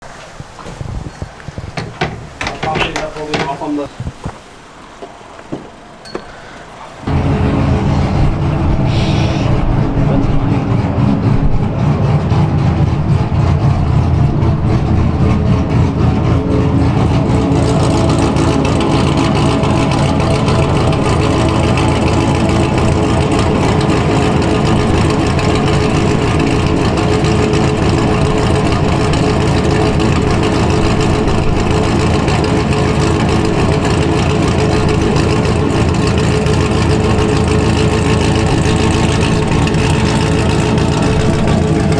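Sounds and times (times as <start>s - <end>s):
car engine idling loud: 7.1s - 41.9s.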